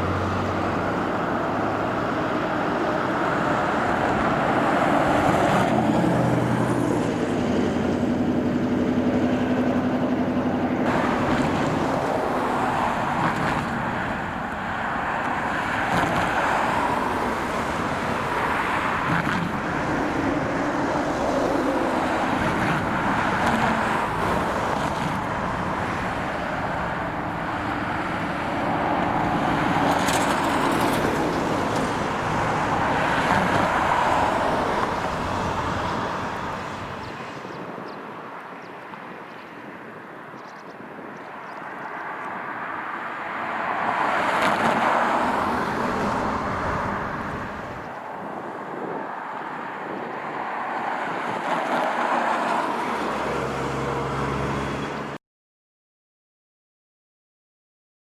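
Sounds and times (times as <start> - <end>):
cars passing: 0.0 - 55.2.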